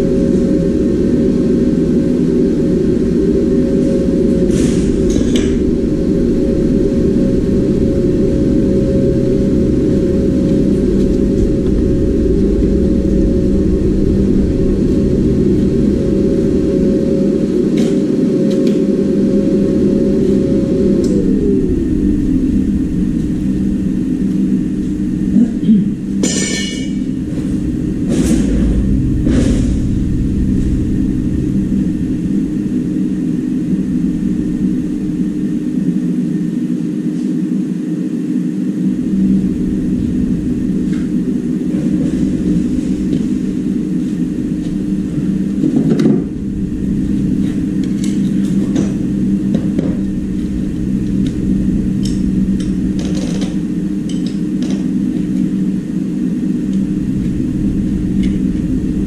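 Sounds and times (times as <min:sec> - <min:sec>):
loud low machine hum: 0:00.0 - 0:59.0.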